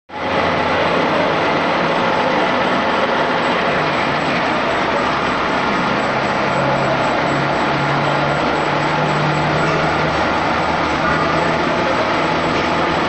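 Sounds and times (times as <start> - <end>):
milling machine running: 0.1 - 13.0.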